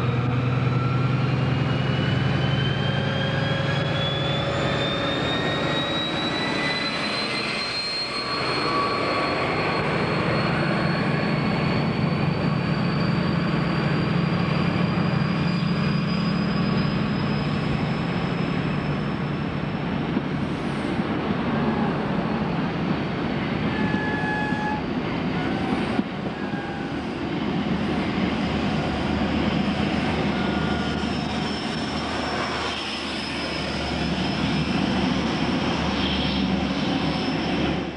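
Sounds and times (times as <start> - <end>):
train wheels on rails: 0.0 - 37.9.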